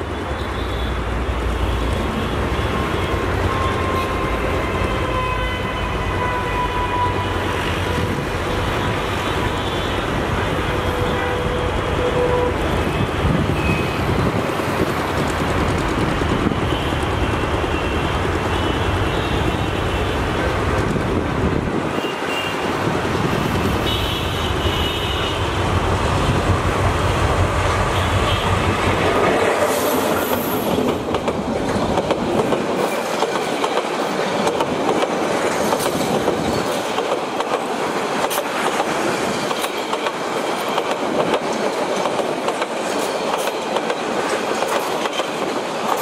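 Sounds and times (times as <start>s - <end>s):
diesel locomotive engine rumble: 0.0s - 46.0s.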